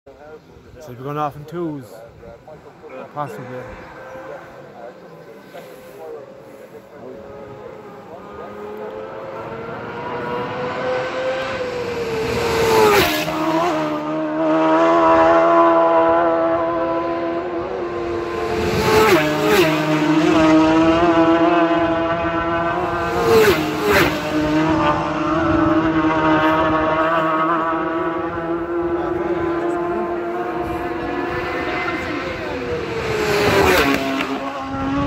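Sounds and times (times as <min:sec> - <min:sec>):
motorcycles passing at high speed: 0:02.0 - 0:35.0
high-revving engine: 0:05.4 - 0:35.0.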